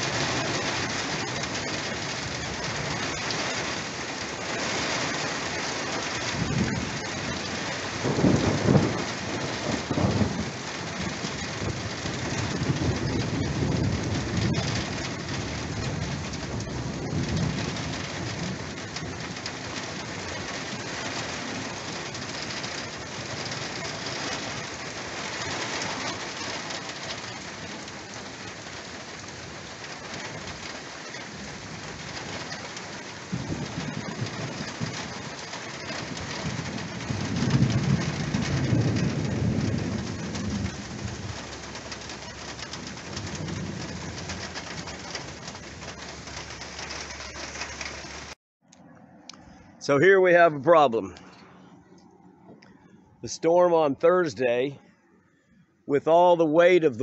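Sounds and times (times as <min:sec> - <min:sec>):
steady rain: 0:00.0 - 0:48.4, 0:49.6 - 0:51.2, 0:51.9 - 0:54.8, 0:55.9 - 0:57.0
thunder rumbling: 0:00.0 - 0:48.4.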